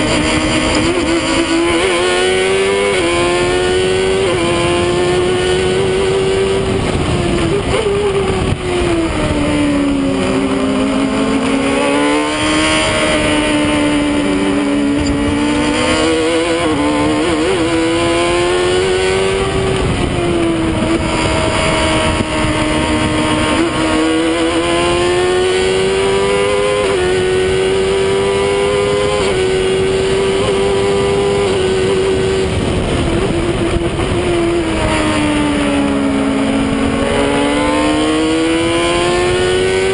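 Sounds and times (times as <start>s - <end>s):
racing car engine: 0.0s - 39.9s
wind and road noise: 0.0s - 39.9s.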